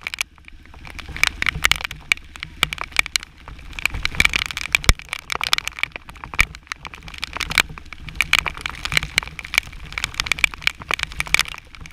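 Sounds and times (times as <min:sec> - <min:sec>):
motorcycle engine humming: 0:00.0 - 0:11.9
rain and spray hitting microphone: 0:00.0 - 0:11.9.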